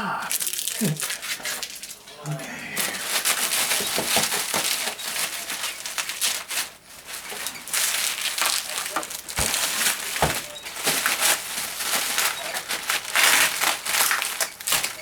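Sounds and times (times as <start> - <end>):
packing material crinkling: 0.3 - 15.0.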